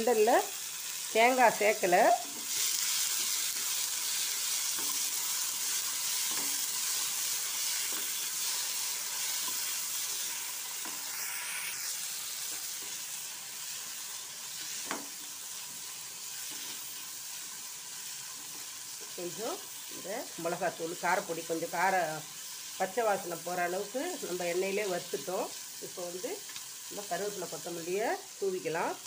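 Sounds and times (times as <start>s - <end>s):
beans sizzling in hot oil: 0.0s - 29.0s.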